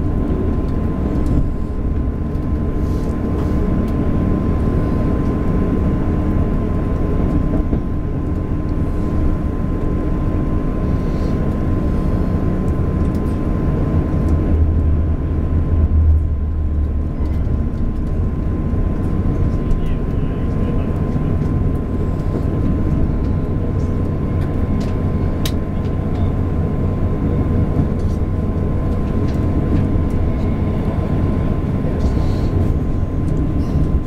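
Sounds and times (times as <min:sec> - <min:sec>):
train wheels rumbling on track: 0:00.0 - 0:34.0.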